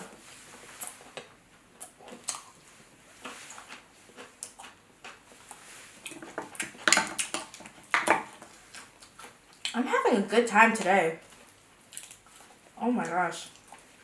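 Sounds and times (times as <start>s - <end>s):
wet chewing: 0.8s - 9.8s, 10.7s - 14.0s.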